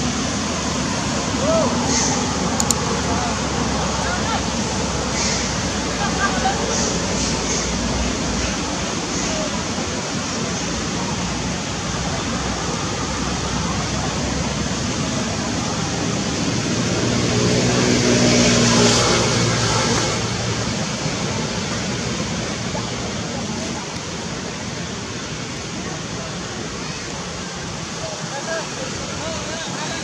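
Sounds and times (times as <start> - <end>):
rushing outdoor background noise: 0.0 - 30.0.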